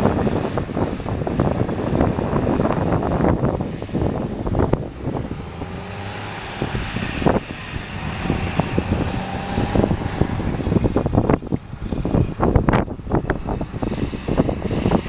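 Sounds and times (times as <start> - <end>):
gusting wind buffeting microphone: 0.0 - 15.0
tractor engine running: 0.0 - 15.0.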